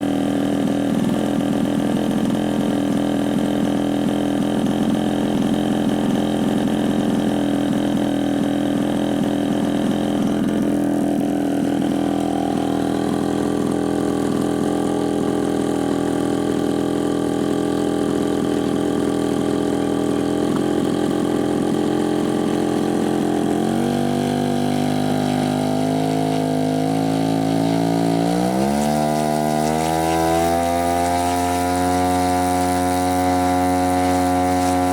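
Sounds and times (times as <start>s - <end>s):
model airplane engine idling: 0.0s - 34.9s.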